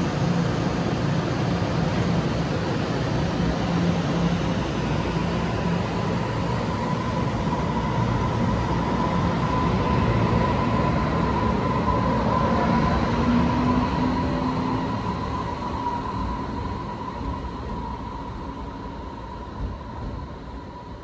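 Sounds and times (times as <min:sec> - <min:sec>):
train wheels rumbling on rail: 0:00.0 - 0:21.0
train whining tone: 0:00.0 - 0:21.0.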